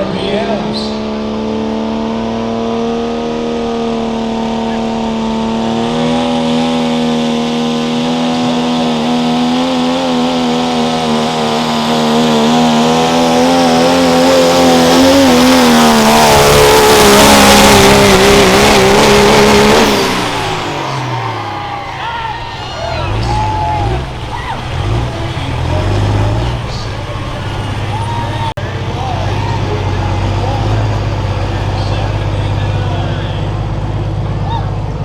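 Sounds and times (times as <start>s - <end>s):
diesel engine under heavy load: 0.0s - 35.0s.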